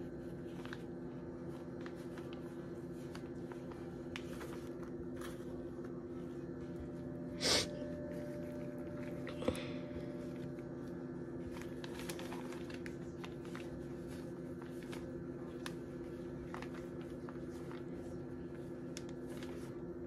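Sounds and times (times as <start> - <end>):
plastic bag rustling and crinkling: 0.0 - 7.1, 7.9 - 20.0
low room hum: 0.0 - 20.0.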